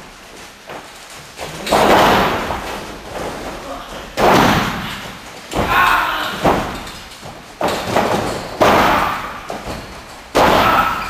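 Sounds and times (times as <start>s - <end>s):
bodies slamming onto mat: 1.4s - 11.0s.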